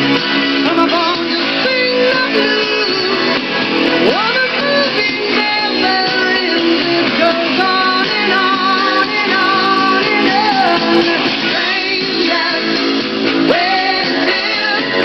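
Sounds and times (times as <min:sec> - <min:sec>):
guitar music: 0:00.0 - 0:15.0
person singing: 0:00.0 - 0:15.0.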